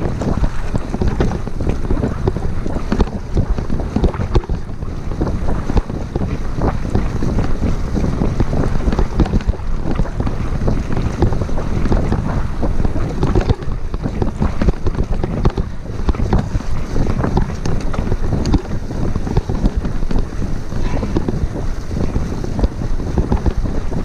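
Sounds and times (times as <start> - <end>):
bike knocking and rattling: 0.0 - 24.0
bike tyres rumbling on dirt: 0.0 - 24.0
wind buffeting microphone: 0.0 - 24.0.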